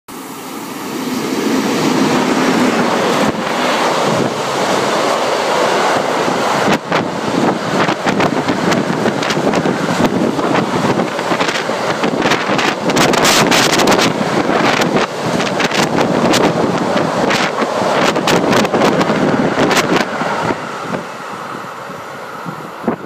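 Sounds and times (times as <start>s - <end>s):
locomotive rushing past: 0.1s - 23.0s
wind buffeting microphone: 0.7s - 23.0s.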